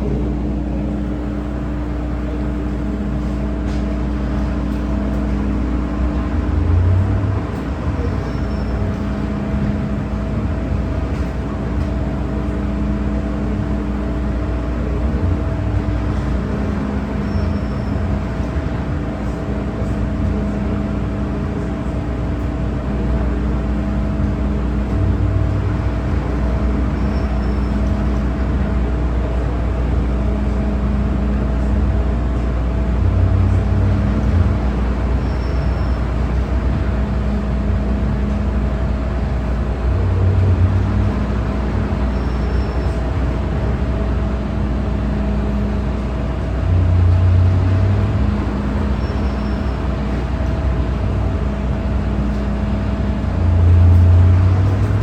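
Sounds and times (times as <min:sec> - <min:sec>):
electric train rumbling: 0:00.0 - 0:55.0.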